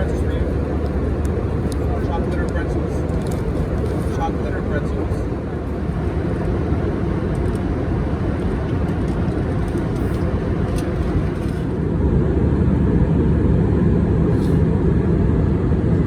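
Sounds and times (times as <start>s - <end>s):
airplane cabin engine rush: 0.0s - 16.0s.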